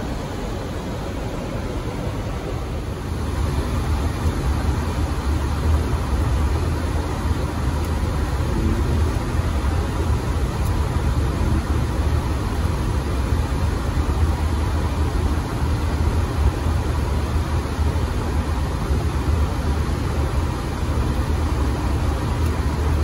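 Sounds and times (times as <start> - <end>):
aircraft engines rumbling: 0.0 - 23.0
faint steady whine: 0.0 - 23.0.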